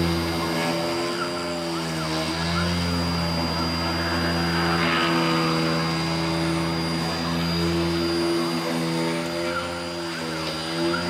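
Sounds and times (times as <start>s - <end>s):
spindle motor hum with high whine: 0.0s - 11.0s.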